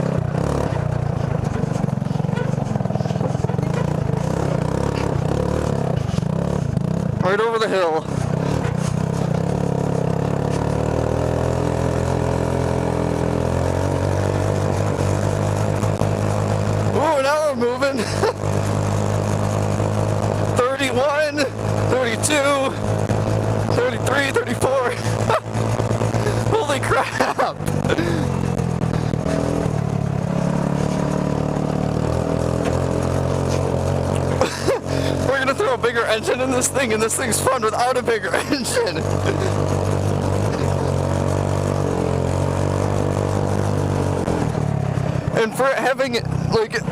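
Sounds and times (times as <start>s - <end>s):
go-kart engine running: 0.0s - 46.9s.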